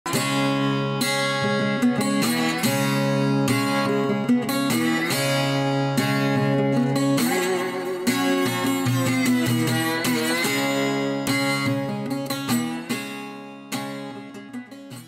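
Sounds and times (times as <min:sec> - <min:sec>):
acoustic guitar strumming chords: 0:00.1 - 0:15.0.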